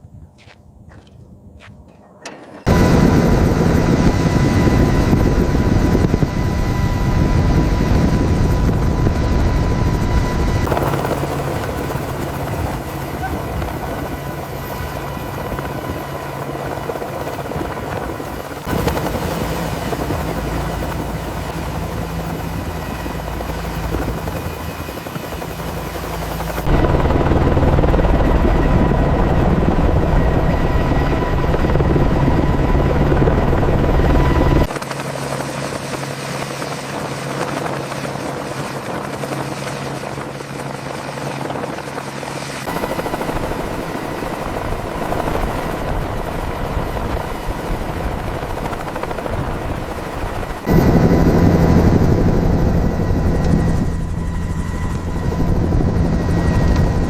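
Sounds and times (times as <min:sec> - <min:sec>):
helicopter rotor and engine: 0:02.2 - 0:57.0.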